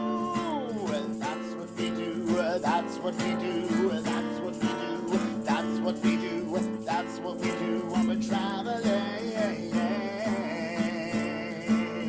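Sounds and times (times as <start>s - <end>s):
strummed acoustic guitar: 0.0s - 12.0s
voice singing with vibrato: 0.0s - 12.0s.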